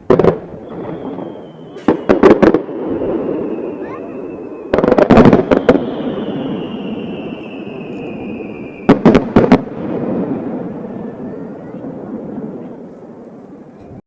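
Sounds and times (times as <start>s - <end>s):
rumble of echoing firework bursts: 0.0s - 13.8s
firework bangs: 0.0s - 14.0s.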